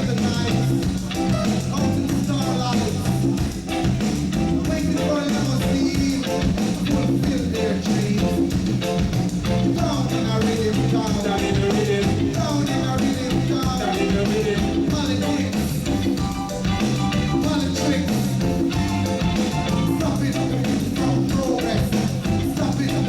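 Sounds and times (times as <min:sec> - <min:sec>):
bass: 0:00.0 - 0:23.0
live reggae band playing: 0:00.0 - 0:23.0
percussion: 0:00.0 - 0:23.0.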